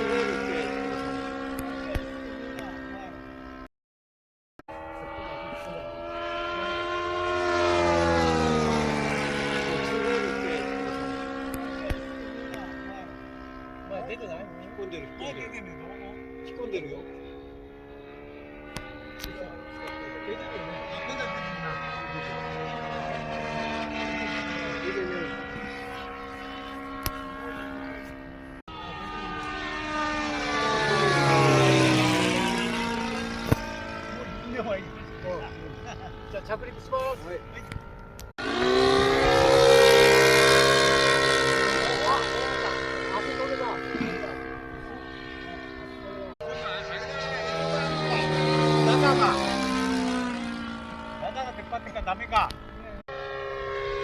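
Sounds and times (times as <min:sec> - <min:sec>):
model aircraft engine flying past: 0:00.0 - 0:03.7, 0:04.7 - 0:54.0.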